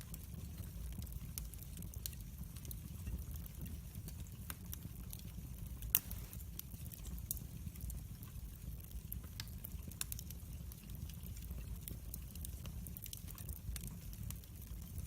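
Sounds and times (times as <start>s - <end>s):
low rumble of flames: 0.0s - 15.0s
wood fire crackles and pops: 0.0s - 15.0s.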